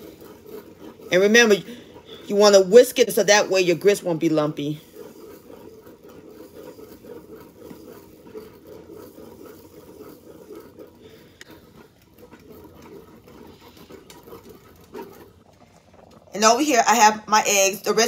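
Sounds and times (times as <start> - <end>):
whisk scraping a saucepan: 0.0 - 18.0.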